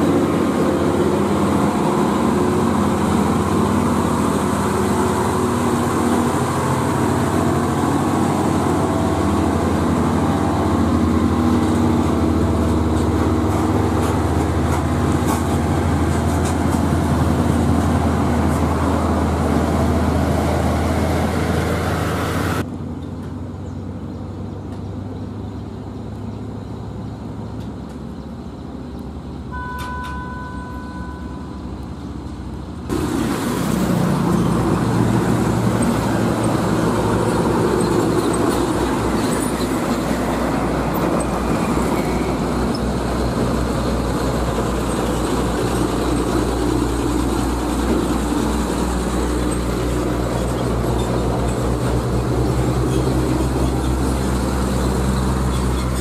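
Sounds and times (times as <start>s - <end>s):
distant traffic: 0.0s - 56.0s
truck diesel engine under load: 0.0s - 56.0s.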